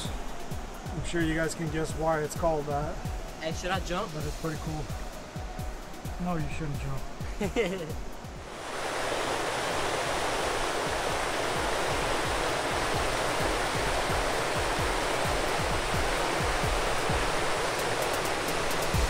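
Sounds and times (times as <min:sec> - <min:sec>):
river rapids rushing: 0:00.0 - 0:19.0.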